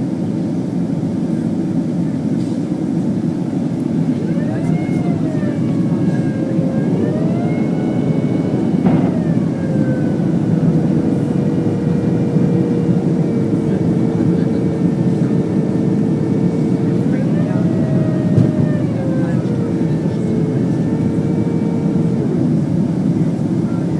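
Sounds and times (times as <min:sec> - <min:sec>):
jet engine rumble and airflow: 0:00.0 - 0:23.9
jet engine whine: 0:00.0 - 0:23.9.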